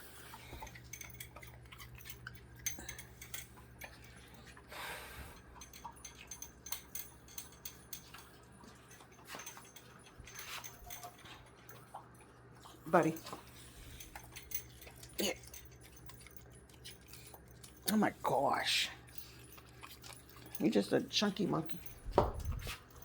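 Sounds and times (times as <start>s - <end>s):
dog eating from a bowl: 0.1s - 23.0s
light clicks and clinks: 0.3s - 23.0s.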